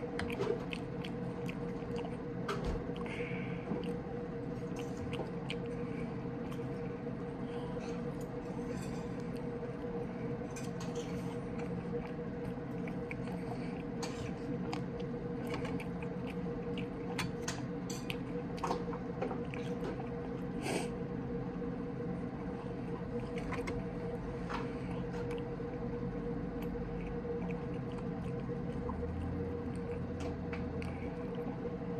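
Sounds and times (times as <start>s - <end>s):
background hum: 0.0s - 31.9s
person chewing food: 0.0s - 31.9s.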